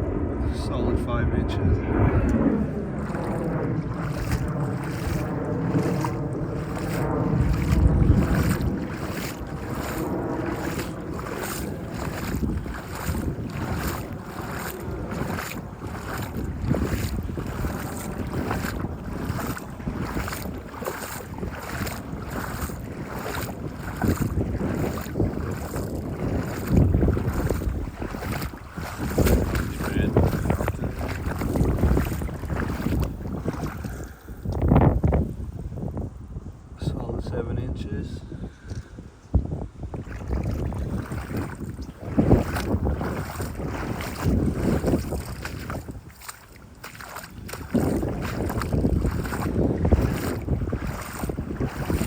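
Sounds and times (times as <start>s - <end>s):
wind buffeting microphone: 0.0s - 52.0s
footsteps sloshing through water: 1.9s - 36.0s, 38.6s - 52.0s.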